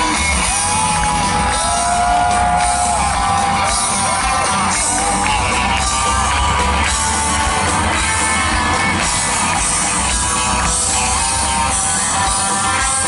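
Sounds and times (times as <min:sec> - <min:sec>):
bass: 0:00.0 - 0:13.0
drums: 0:00.0 - 0:13.0
electric guitars: 0:00.0 - 0:13.0.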